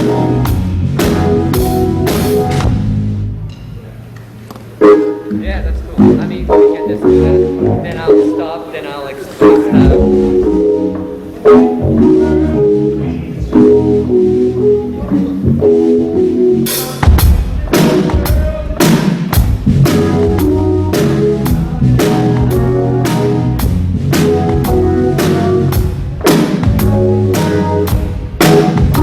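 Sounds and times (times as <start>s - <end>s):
bass line: 0.0s - 3.8s, 4.8s - 8.6s, 9.2s - 29.0s
drum-kit groove: 0.0s - 29.0s
keyboard chords: 0.0s - 29.0s.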